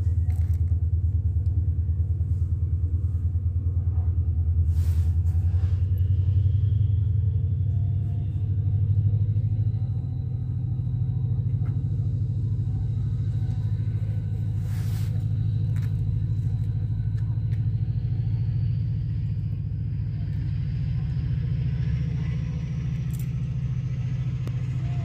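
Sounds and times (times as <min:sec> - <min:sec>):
faint rising whine: 0:00.0 - 0:25.0
locomotive engine rumble: 0:00.0 - 0:25.0.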